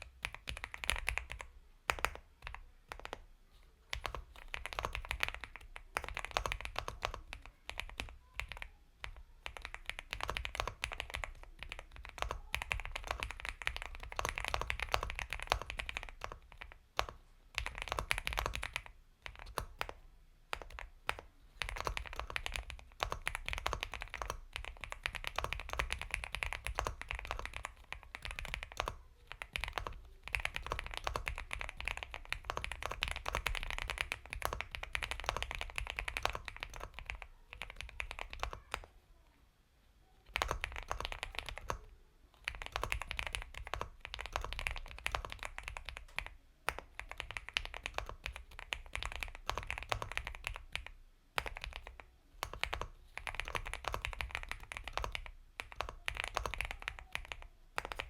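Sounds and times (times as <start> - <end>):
mechanical keyboard typing: 0.0 - 3.2, 3.9 - 39.0, 40.2 - 58.0.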